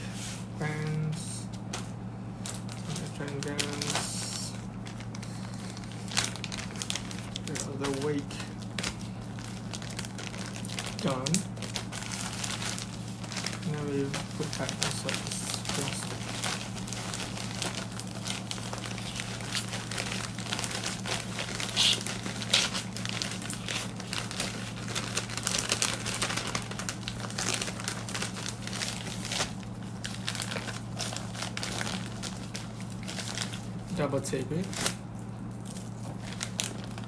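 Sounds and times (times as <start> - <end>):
plastic packaging crinkling: 1.5 - 37.0.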